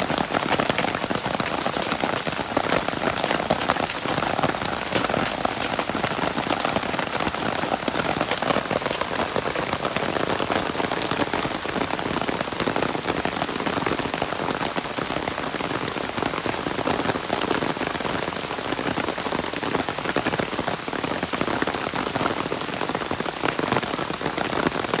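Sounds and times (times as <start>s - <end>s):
steady rain patter: 0.0s - 25.0s.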